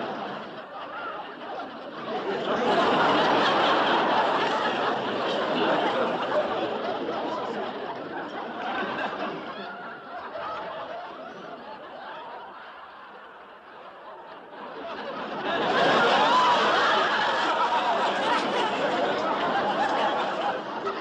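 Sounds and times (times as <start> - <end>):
people chatting: 0.0 - 21.0
people laughing: 0.0 - 21.0.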